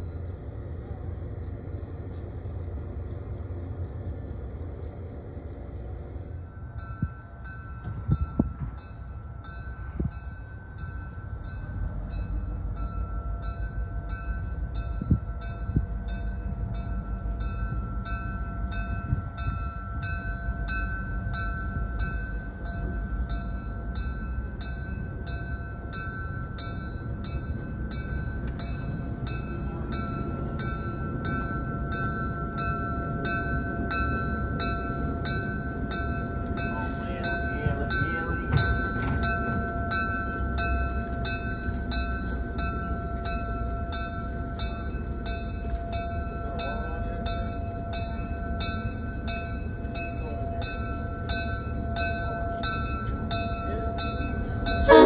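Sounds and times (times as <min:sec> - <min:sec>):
train running: 0:00.0 - 0:55.0.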